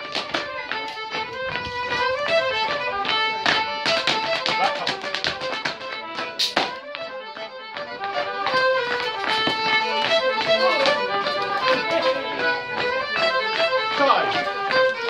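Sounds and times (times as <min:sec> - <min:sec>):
fiddle playing lively tune: 0:00.0 - 0:15.0.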